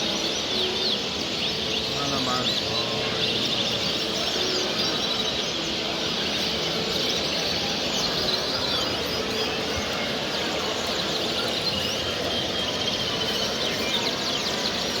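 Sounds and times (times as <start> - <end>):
caged songbirds chirping: 0.0 - 15.0.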